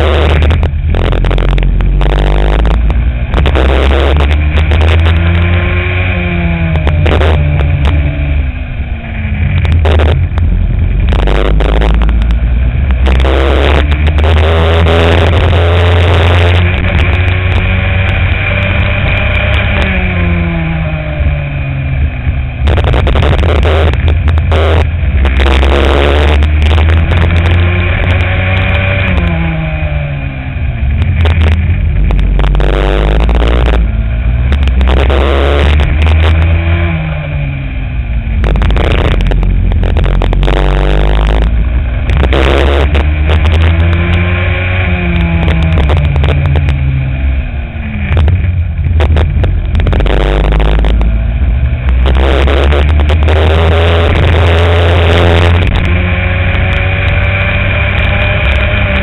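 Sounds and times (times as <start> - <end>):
kart engine revving: 0.0 - 59.0
rushing noise: 0.0 - 59.0.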